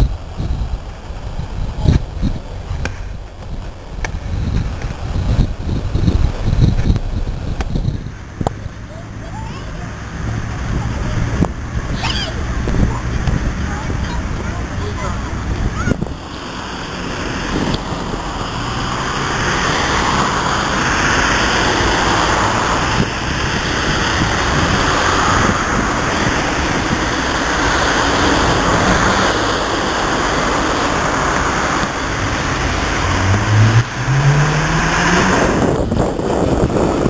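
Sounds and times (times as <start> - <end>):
road traffic passing: 0.0 - 37.0
vehicle engine revving: 4.2 - 37.0.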